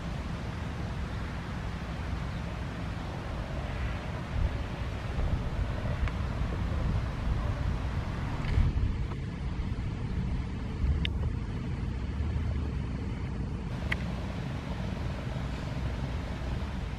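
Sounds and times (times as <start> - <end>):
low outdoor rumble: 0.0 - 16.9.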